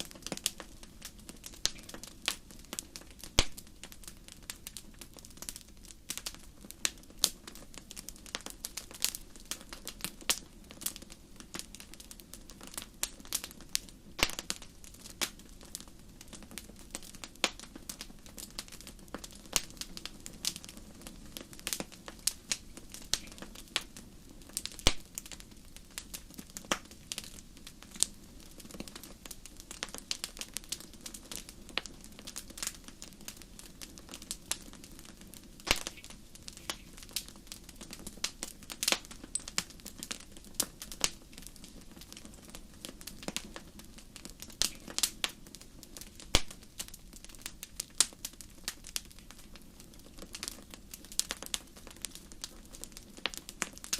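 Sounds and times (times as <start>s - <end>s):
faint low hiss: 0.0s - 53.9s
wood fire crackling: 0.0s - 53.9s.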